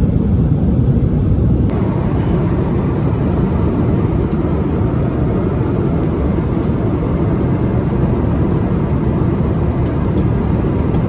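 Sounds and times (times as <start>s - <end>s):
airliner cabin noise in cruise: 0.0s - 11.0s.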